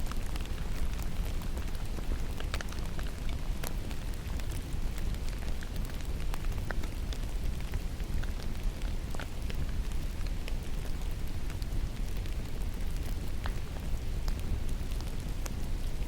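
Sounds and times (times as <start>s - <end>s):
raindrops ticking close by: 0.0s - 16.0s
steady rain in forest: 0.0s - 16.0s.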